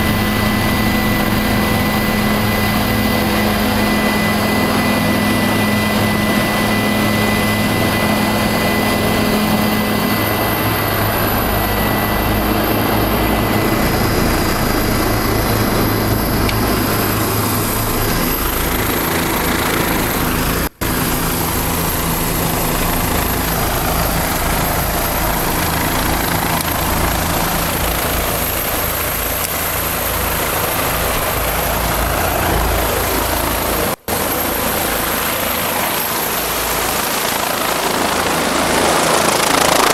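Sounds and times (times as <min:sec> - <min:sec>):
faint high whine: 0:00.0 - 0:39.9
helicopter engine and rotor: 0:00.0 - 0:39.9.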